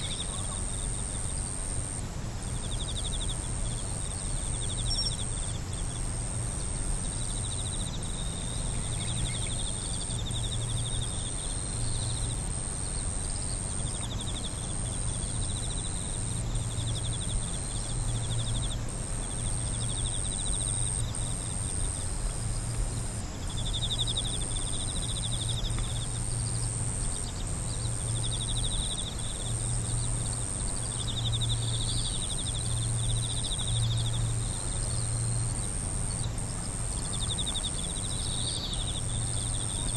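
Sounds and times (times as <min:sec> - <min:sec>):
crickets trilling: 0:00.0 - 0:39.9
high-pitched insect drone: 0:00.0 - 0:39.9.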